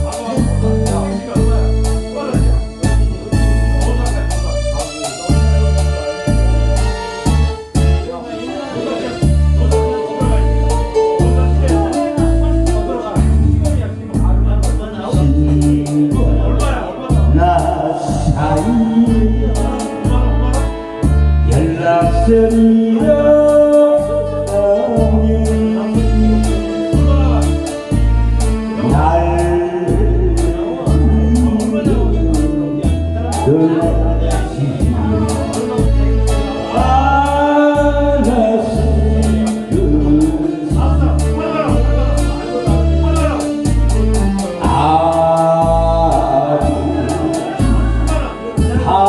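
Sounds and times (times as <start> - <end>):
instrumental backing music with beat: 0.0 - 49.0
person singing: 8.4 - 43.6, 44.4 - 49.0.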